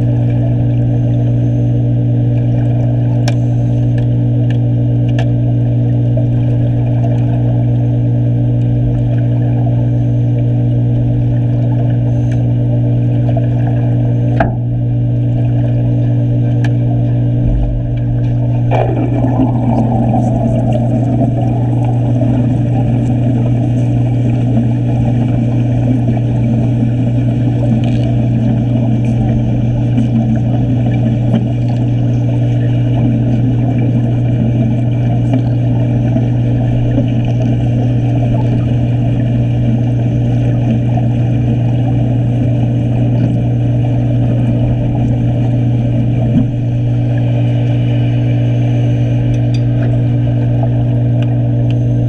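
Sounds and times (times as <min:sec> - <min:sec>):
constant low hum: 0:00.0 - 0:52.0
underwater welding arc crackling: 0:02.1 - 0:51.8.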